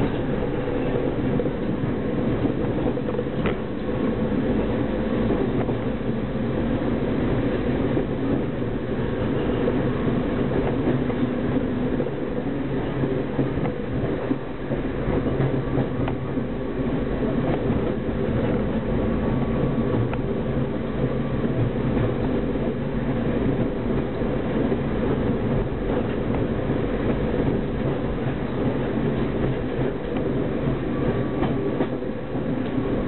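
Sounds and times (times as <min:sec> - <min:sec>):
wheels rumbling on rails: 0:00.0 - 0:33.0.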